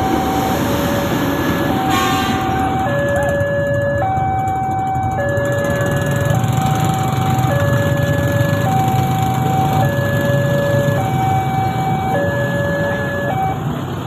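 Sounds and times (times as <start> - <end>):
motorcycle engines moving off: 0.0 - 14.0.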